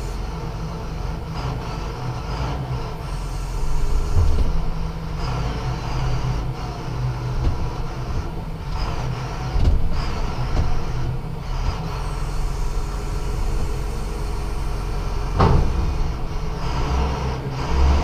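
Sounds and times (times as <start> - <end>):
truck diesel engine idling: 0.0 - 18.0.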